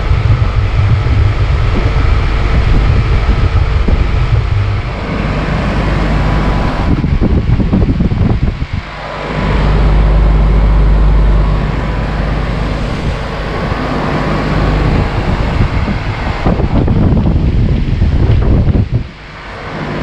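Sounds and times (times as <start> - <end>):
compressor humming: 0.0 - 20.0
condenser fan air rushing: 0.0 - 20.0.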